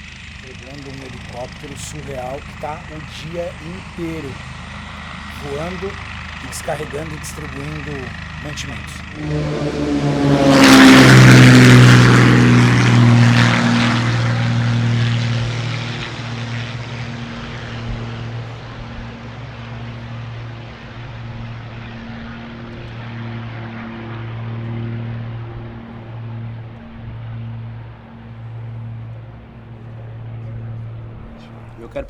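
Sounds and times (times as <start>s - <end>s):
helicopter flying past: 0.0s - 32.0s.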